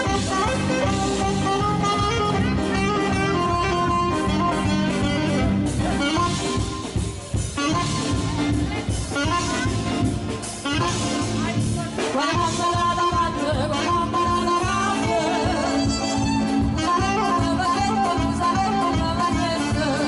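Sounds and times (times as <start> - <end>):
band playing music: 0.0 - 20.0.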